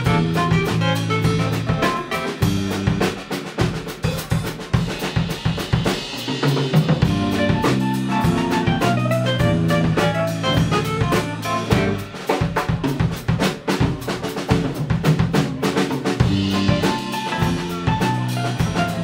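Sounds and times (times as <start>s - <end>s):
bossa nova band playing: 0.0s - 19.0s
drum kit busy beat: 0.0s - 19.0s.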